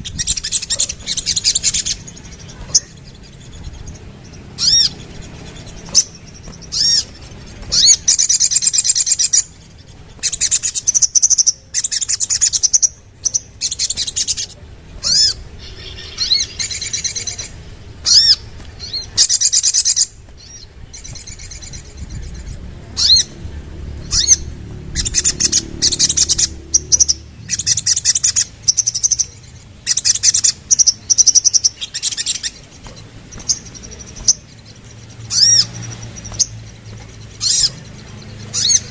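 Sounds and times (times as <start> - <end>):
bird high-pitched chattering: 0.0 - 38.9.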